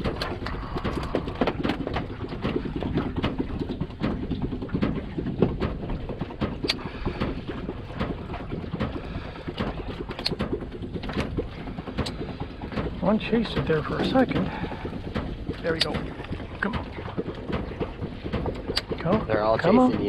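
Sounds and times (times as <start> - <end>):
fishing gear clicks and knocks: 0.0 - 20.0
water slapping boat hull: 0.0 - 20.0
wind buffeting microphone: 0.0 - 20.0.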